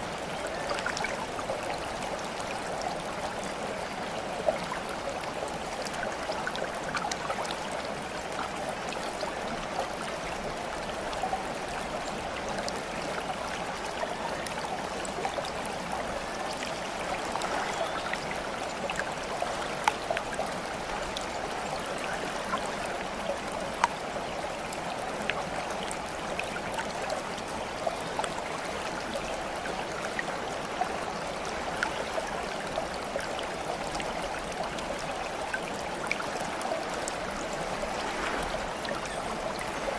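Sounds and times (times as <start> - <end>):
running water trickling: 0.0 - 39.9
water droplet ticks and splashes: 4.4 - 37.2.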